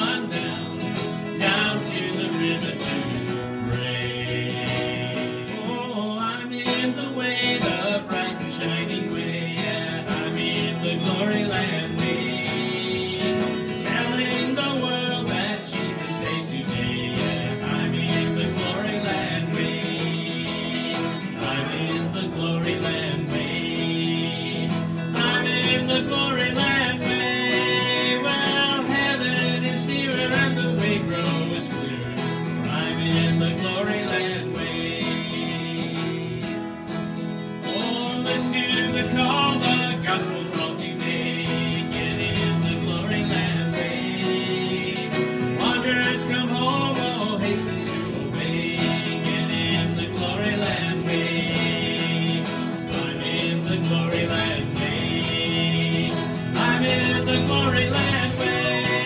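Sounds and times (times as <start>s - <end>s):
acoustic guitars strumming: 0.0s - 59.0s
mandolin strumming: 0.0s - 59.0s.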